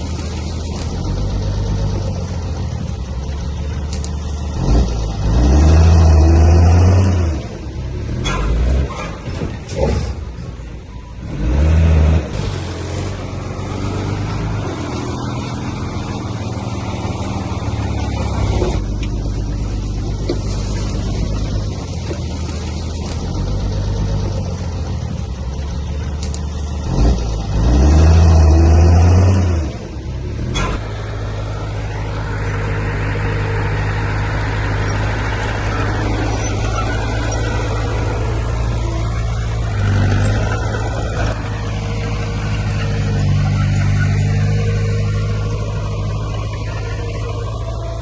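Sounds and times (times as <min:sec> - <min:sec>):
heavy machinery diesel engine: 0:00.0 - 0:48.0.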